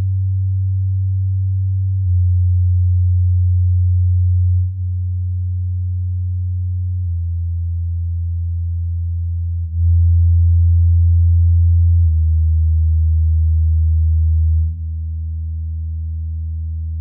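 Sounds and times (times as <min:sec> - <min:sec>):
low bass test tones: 0:00.0 - 0:17.0.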